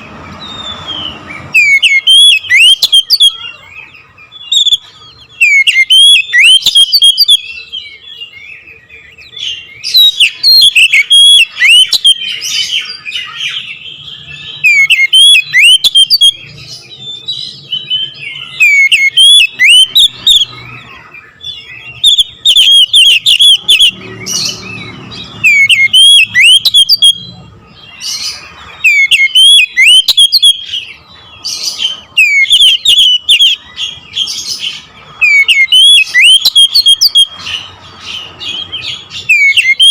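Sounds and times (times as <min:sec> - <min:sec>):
songbird whistling song: 0:00.0 - 0:39.9.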